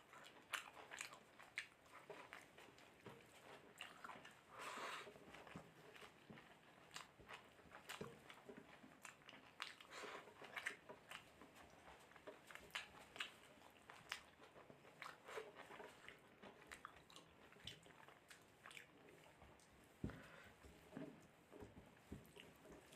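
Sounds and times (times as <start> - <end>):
person chewing food: 0.0 - 22.9.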